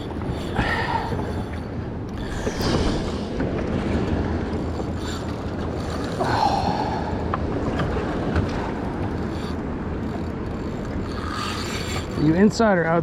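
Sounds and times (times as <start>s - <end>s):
waves and water noise: 0.0s - 13.0s.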